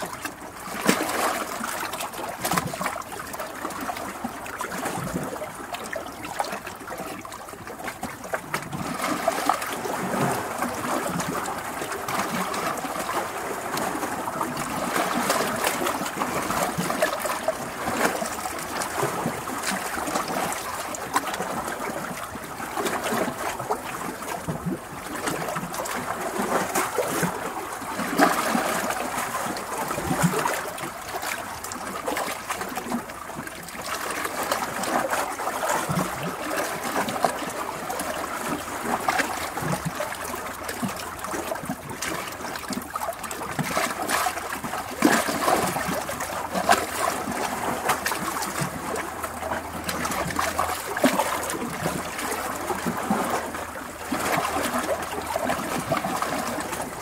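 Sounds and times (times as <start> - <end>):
waves breaking against rocks: 0.0 - 57.0.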